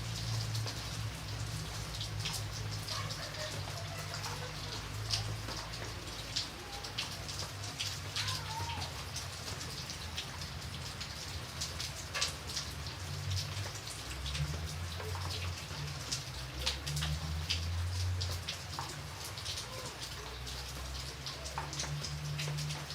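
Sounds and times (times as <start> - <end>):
rain hissing: 0.0 - 22.9
raindrops ticking on surface: 0.0 - 22.9.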